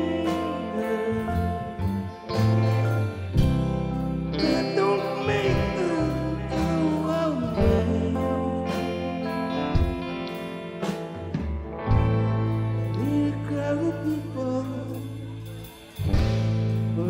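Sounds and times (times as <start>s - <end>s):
man singing: 0.0s - 3.5s, 4.2s - 10.0s, 12.5s - 17.0s
live rock band playing: 0.0s - 17.0s.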